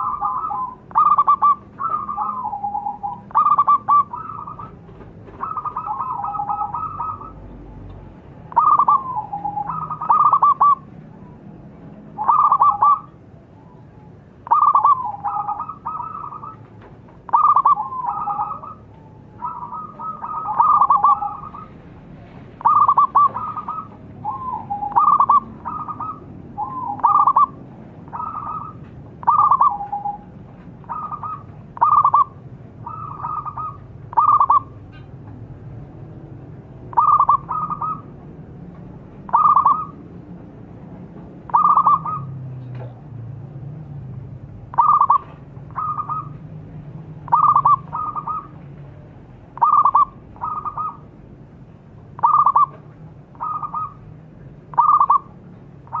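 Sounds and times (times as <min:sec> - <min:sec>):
dove cooing: 0:00.0 - 0:07.8, 0:08.4 - 0:11.4, 0:12.1 - 0:21.8, 0:22.6 - 0:35.2, 0:36.9 - 0:38.2, 0:39.1 - 0:40.0, 0:41.4 - 0:42.5, 0:44.7 - 0:46.4, 0:47.2 - 0:51.1, 0:52.2 - 0:54.1, 0:54.7 - 0:56.0.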